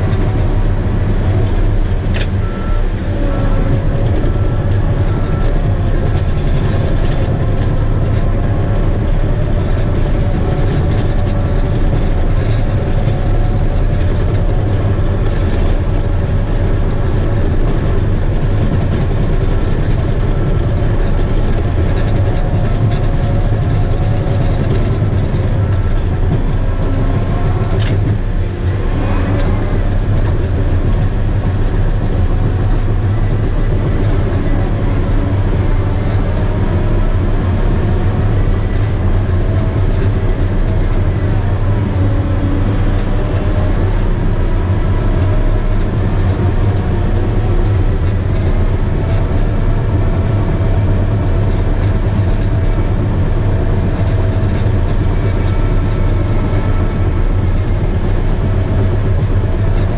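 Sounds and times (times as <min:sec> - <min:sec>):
bulldozer diesel engine running: 0:00.0 - 0:59.9
steel tracks clanking: 0:00.0 - 0:59.9
wavering whine: 0:00.0 - 0:59.9.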